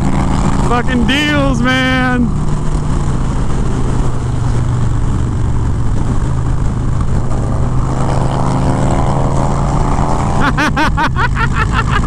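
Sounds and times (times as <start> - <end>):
wind rush: 0.0 - 10.5
motorcycle engine low hum: 0.0 - 12.0.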